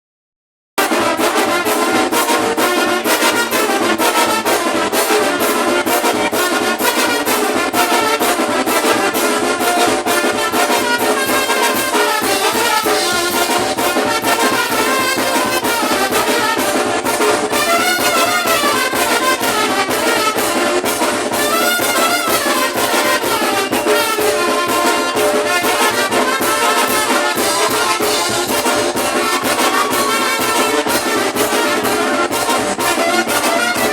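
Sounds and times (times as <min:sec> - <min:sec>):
brass band playing: 0:00.8 - 0:33.9
drum hits: 0:00.8 - 0:33.9.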